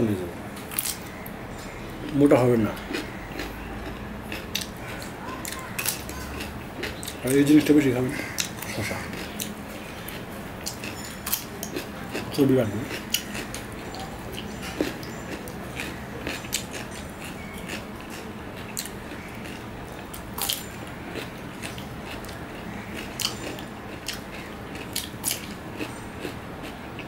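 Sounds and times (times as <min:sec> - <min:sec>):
crunching raw cucumber: 0:00.7 - 0:01.2, 0:02.1 - 0:27.0.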